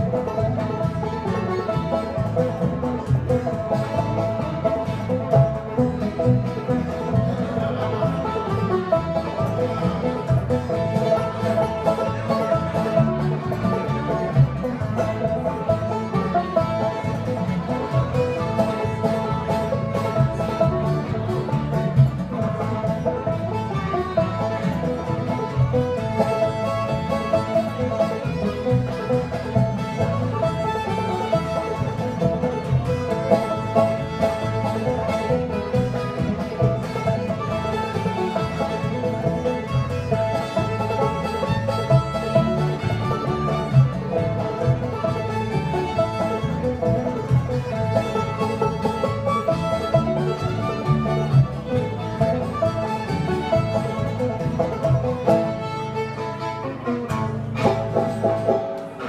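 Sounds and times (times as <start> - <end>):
banjo: 0.0 - 59.0
fiddle: 0.0 - 59.0
guitar: 0.0 - 59.0
upright bass: 0.0 - 59.0.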